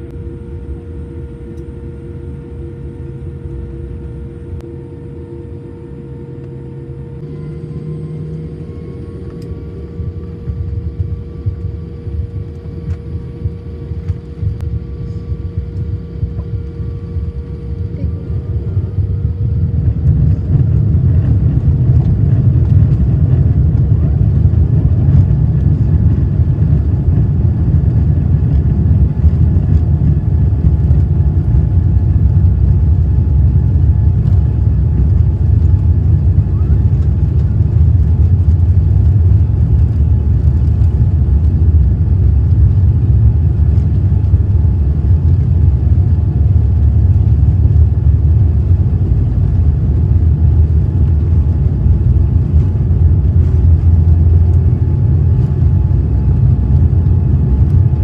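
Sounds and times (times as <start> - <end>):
jet engines at takeoff thrust: 0.0 - 58.0
wheels rumbling on runway: 6.4 - 58.0.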